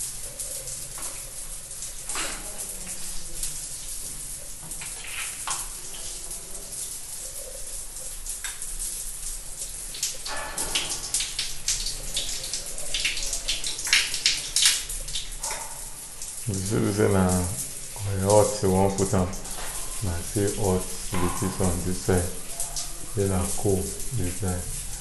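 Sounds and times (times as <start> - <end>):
shower water splashing on hand: 0.0 - 25.0.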